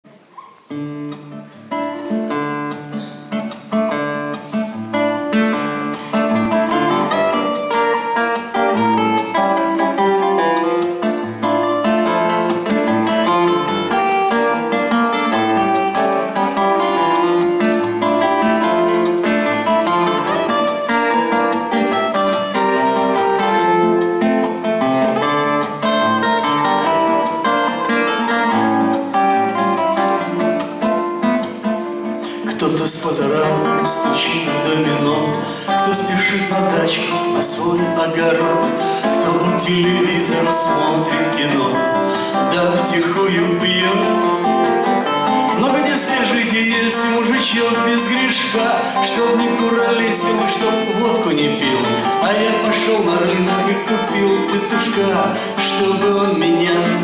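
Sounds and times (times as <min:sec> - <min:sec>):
acoustic guitar playing: 0:00.0 - 0:57.0.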